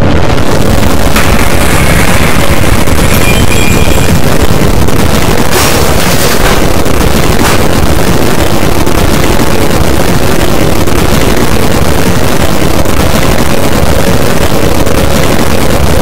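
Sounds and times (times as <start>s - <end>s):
faint steady hum: 0.0s - 16.0s
low rumble: 0.0s - 16.0s.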